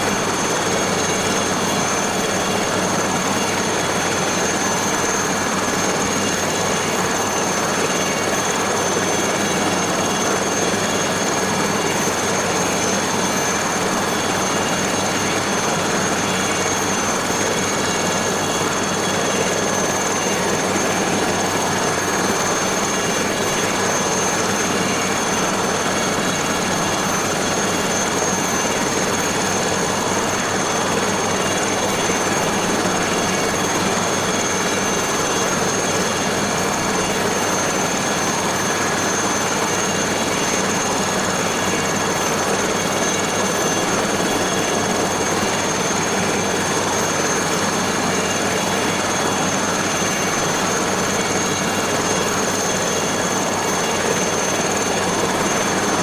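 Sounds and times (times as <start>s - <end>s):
helicopter rotor running: 0.0s - 56.0s
high turbine whine: 0.0s - 56.0s.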